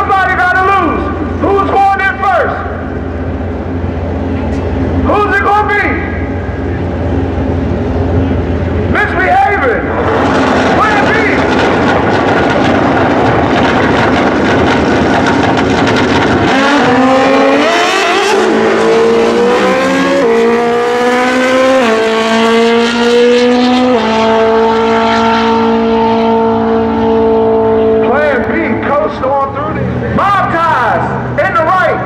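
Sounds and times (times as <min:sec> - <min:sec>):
motorcycles at full throttle: 0:00.0 - 0:32.0.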